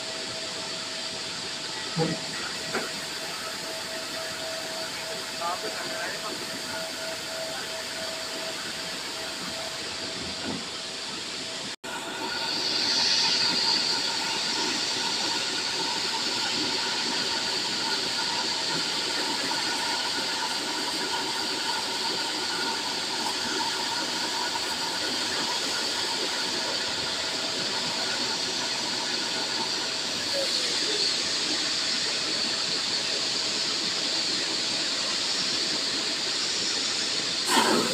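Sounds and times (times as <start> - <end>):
machinery hissing: 0.0 - 37.9.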